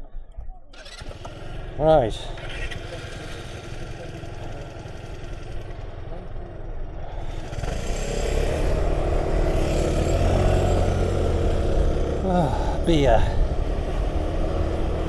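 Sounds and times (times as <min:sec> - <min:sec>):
motor scooter engine: 0:00.8 - 0:15.0.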